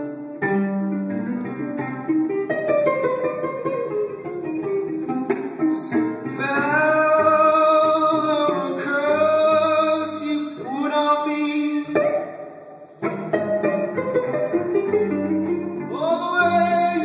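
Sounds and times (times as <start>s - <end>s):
plucked strings: 0.0s - 17.0s.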